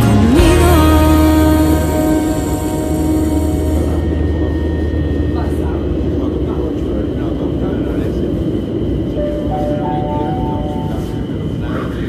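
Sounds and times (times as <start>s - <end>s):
held music note: 0.0s - 7.6s, 9.1s - 11.5s
train rumbling through tunnel: 0.0s - 12.0s.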